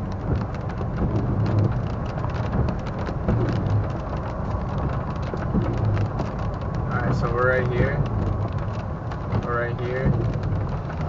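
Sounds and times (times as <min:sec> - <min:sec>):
car rumbling on road: 0:00.0 - 0:11.0
rain drops hitting car: 0:00.0 - 0:11.0.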